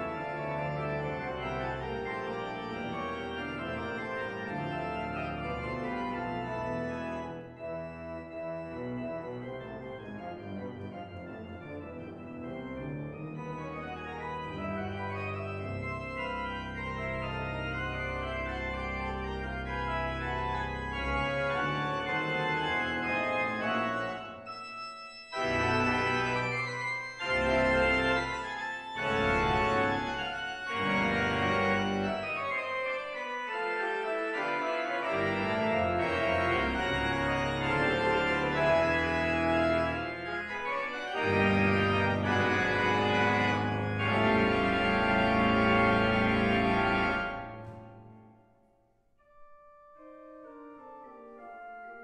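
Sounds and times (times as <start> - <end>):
church organ playing: 0.0 - 48.5, 49.2 - 52.0.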